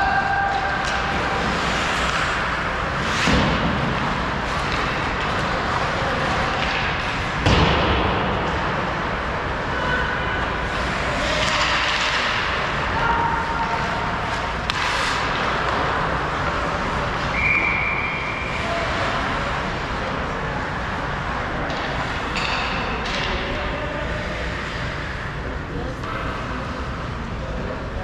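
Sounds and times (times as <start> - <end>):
skates scraping ice: 0.0 - 27.1
arena noise: 0.0 - 28.0.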